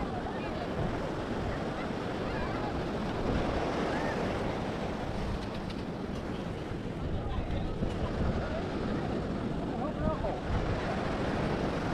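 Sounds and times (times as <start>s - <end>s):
wind on microphone: 0.0s - 11.9s.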